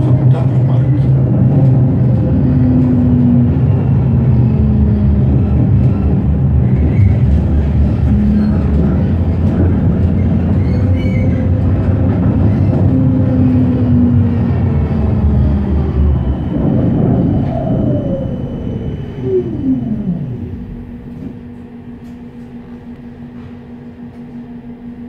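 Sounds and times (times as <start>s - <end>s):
tram wheels rumbling on track: 0.0s - 25.0s.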